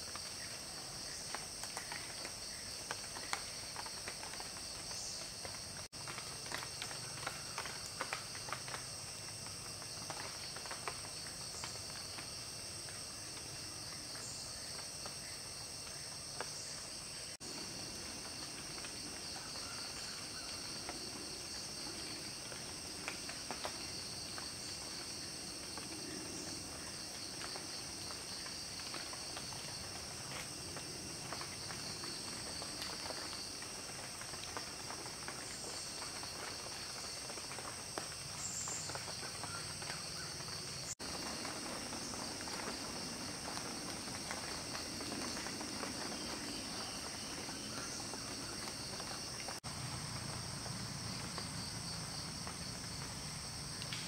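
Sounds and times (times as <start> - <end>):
insects chirring chorus: 0.0 - 54.0.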